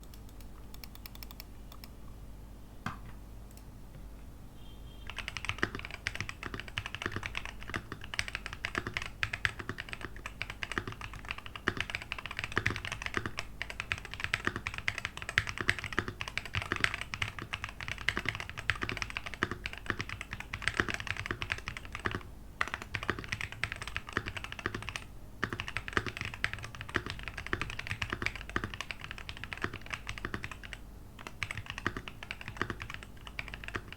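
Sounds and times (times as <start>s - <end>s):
mechanical keyboard typing: 0.0s - 1.9s, 5.1s - 33.9s.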